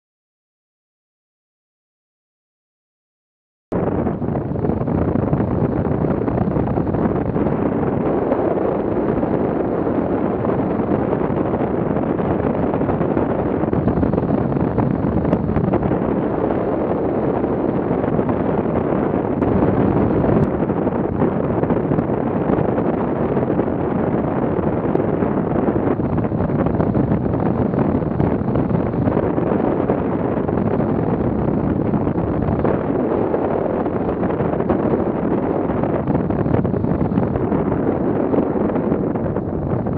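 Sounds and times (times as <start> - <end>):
wind buffeting microphone: 3.7 - 39.9.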